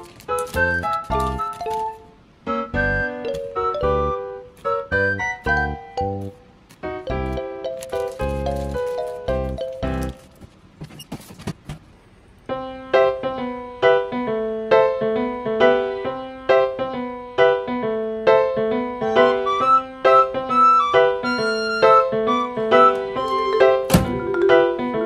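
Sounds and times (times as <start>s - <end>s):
light keyboard tune: 0.0s - 10.4s, 12.5s - 25.0s.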